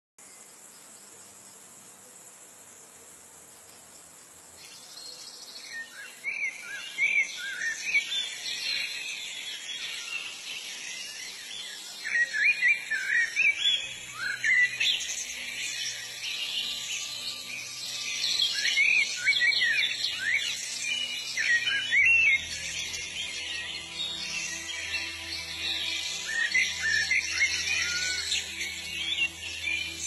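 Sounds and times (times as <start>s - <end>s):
insects hissing: 0.2s - 30.0s
small birds chirping: 0.2s - 30.0s.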